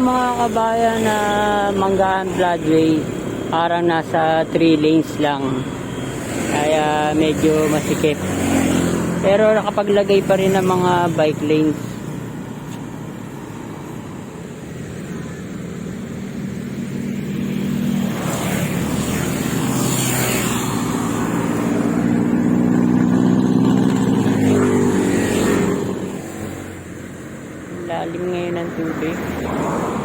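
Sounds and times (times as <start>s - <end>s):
vehicle engine passing: 0.0s - 30.0s.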